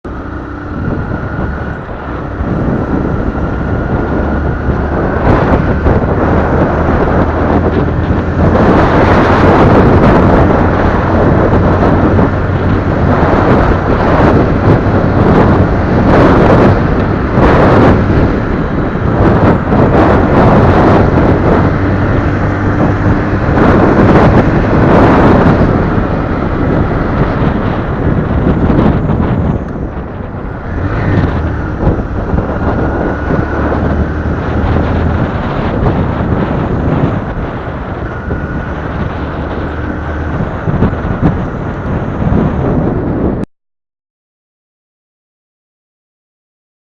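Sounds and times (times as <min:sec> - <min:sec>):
motorcycle engine humming: 0:00.0 - 0:43.4
wind buffeting microphone: 0:00.1 - 0:43.5.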